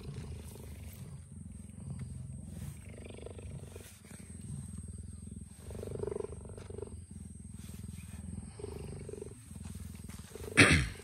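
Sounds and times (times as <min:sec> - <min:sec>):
cheetah purring: 0:00.0 - 0:11.0.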